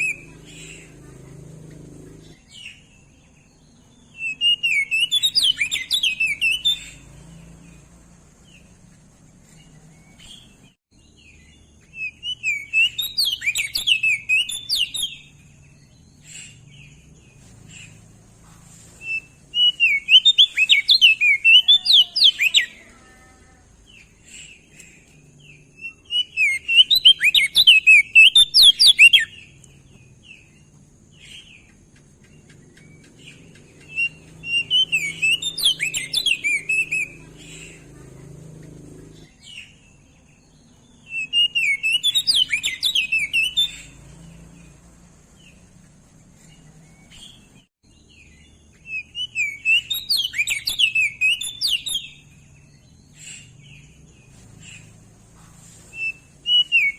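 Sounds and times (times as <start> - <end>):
bird twittering warbled song: 0.0 - 56.9.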